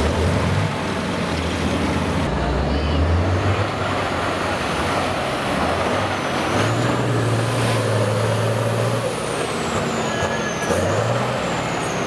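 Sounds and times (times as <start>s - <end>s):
diesel truck engine working hard: 0.0s - 12.0s.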